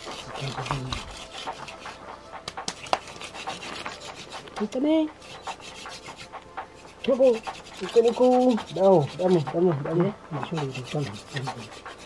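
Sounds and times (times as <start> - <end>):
wooden stick rubbing on board: 0.0 - 12.0.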